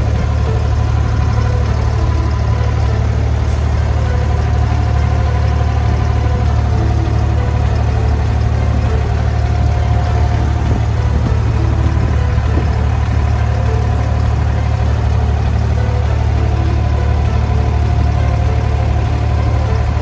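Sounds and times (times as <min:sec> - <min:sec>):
boat diesel engine droning: 0:00.0 - 0:20.0.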